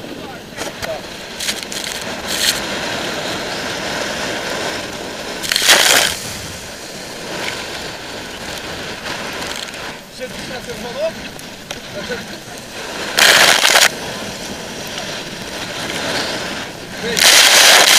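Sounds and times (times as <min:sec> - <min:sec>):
surf breaking against pier: 0:00.0 - 0:17.9
wave crashing with spray: 0:00.0 - 0:17.9.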